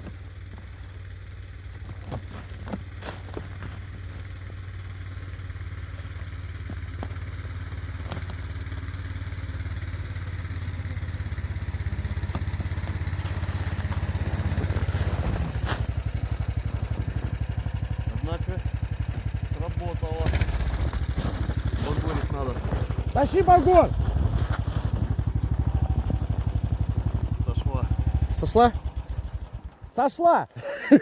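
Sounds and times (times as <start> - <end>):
snowmobile engine running: 0.0 - 31.0.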